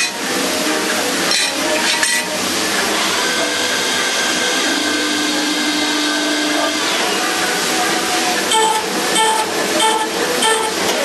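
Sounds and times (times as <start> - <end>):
high steady whine: 0.0 - 11.0
lathe machining metal: 0.0 - 11.0.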